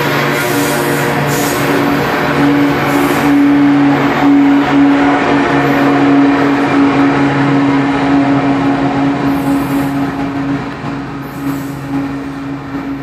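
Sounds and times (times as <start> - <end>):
diesel locomotive engine hum: 0.0 - 13.0
rail noise: 0.0 - 13.0.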